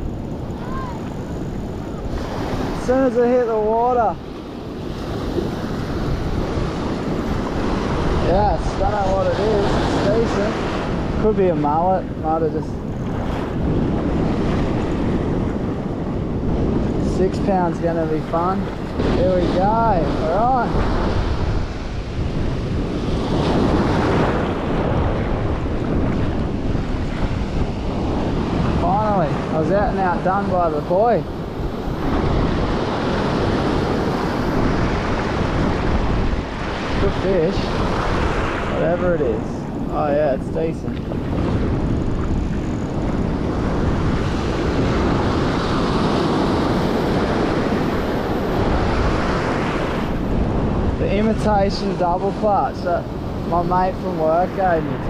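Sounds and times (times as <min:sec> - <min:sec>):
small waves breaking: 0:00.0 - 0:55.0
surf washing across sand: 0:00.0 - 0:55.0
wind rumbling on microphone: 0:00.0 - 0:55.0.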